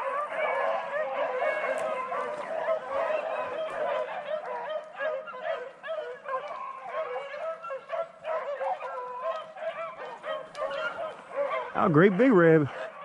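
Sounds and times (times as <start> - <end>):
beagles baying and yelping: 0.0 - 13.0.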